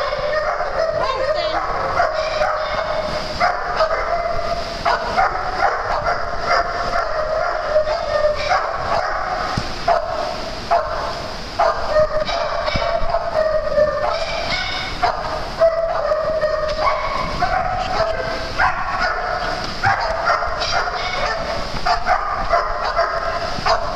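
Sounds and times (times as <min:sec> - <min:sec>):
dogs barking: 0:00.0 - 0:23.9.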